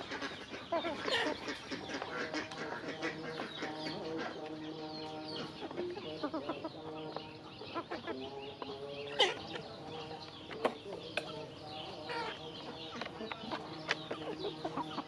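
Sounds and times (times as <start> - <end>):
beaks pecking feed: 0.0 - 15.0
chickens clucking: 0.0 - 15.0.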